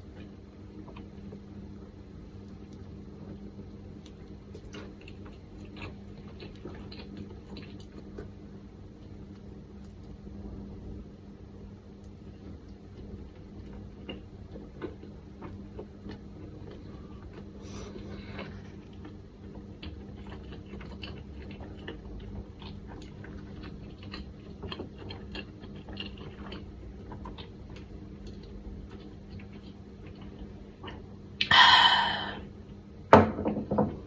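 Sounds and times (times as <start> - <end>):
low steady hum: 0.0 - 34.0
close-up chewing: 0.1 - 8.4, 11.6 - 32.1.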